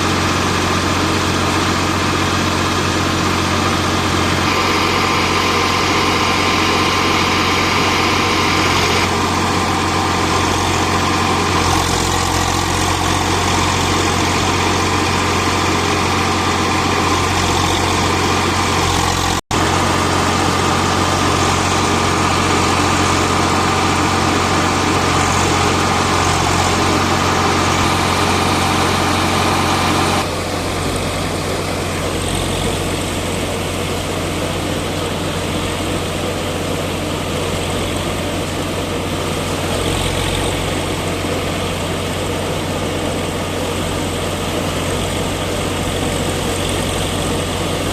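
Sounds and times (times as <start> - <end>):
threshing machine: 0.0 - 47.9
tractor diesel engine running: 0.0 - 47.9.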